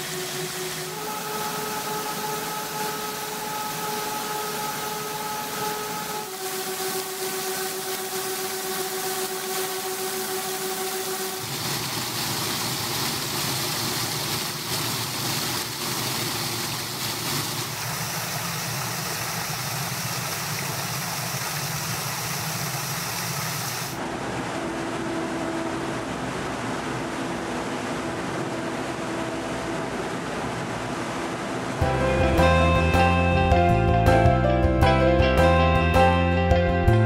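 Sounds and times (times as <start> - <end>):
spinning turbine whine: 0.0 - 31.9
water rushing through turbines: 0.0 - 33.4.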